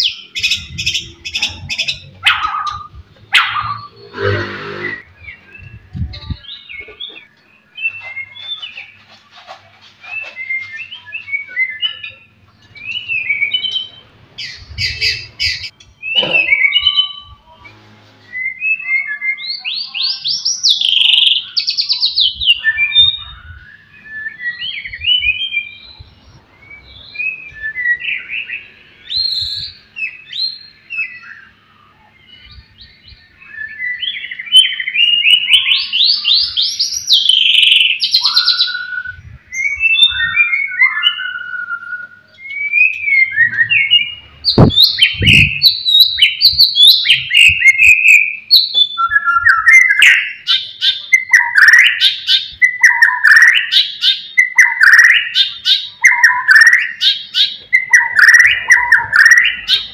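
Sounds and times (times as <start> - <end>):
bird singing whistled phrases: 10.0 - 17.5, 18.3 - 26.0, 26.6 - 59.9.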